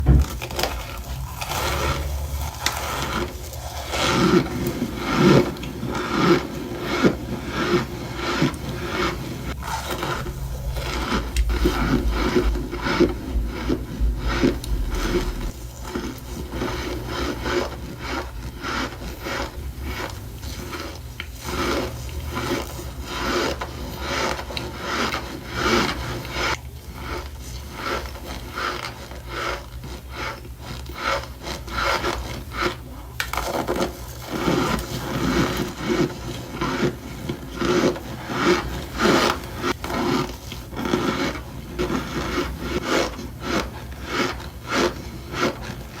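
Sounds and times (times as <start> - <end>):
cornstarch chunks crunching: 0.0 - 46.0.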